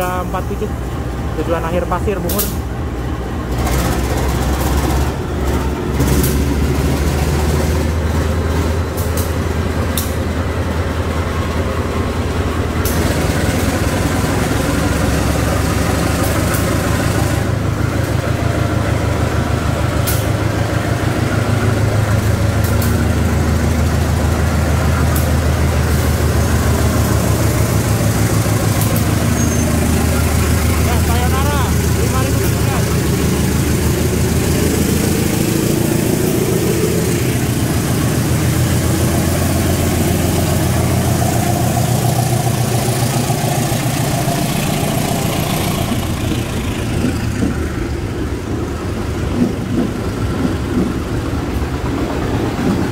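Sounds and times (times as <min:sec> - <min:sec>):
diesel locomotive engine rumble: 0:00.0 - 0:52.9.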